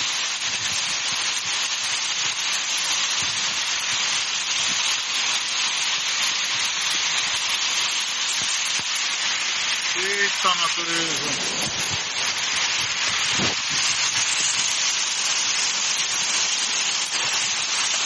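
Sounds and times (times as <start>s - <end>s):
hail and rain pelting car: 0.0s - 18.0s.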